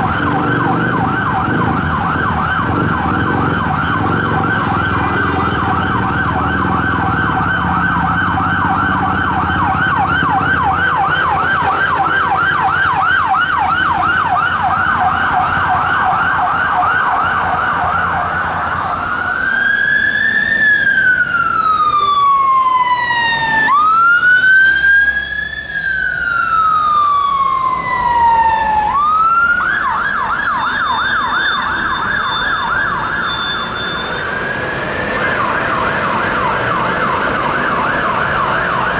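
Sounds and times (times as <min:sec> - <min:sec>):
siren yelping and wailing: 0:00.0 - 0:38.9.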